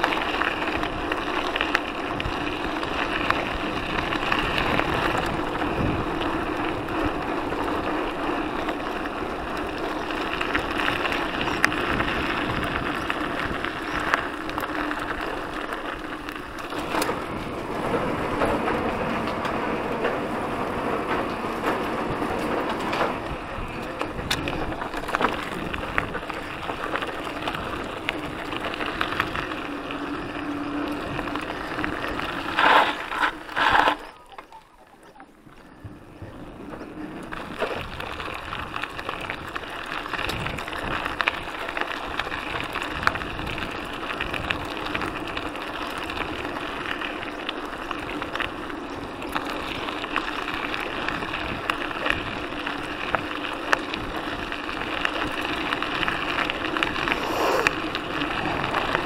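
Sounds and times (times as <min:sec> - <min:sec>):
bike tyres rattling on gravel: 0:00.0 - 0:59.0.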